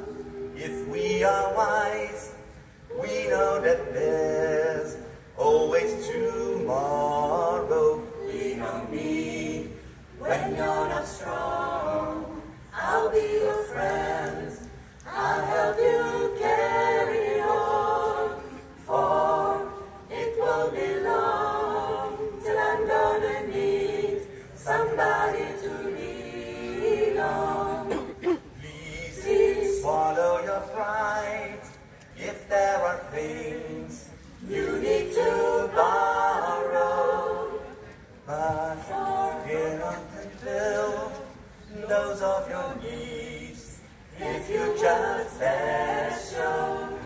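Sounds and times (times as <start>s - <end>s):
a cappella group singing harmony: 0.0s - 47.0s.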